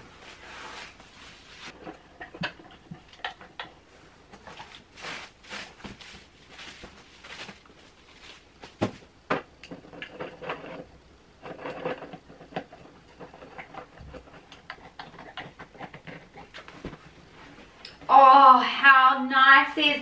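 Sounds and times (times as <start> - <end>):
stool leg clicking and scraping: 0.2 - 17.7.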